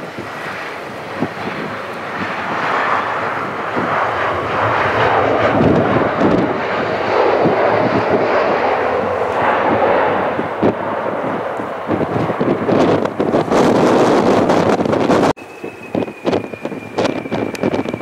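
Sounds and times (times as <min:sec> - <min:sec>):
jet engines rushing: 0:00.0 - 0:18.0
wind buffeting microphone: 0:00.0 - 0:18.0.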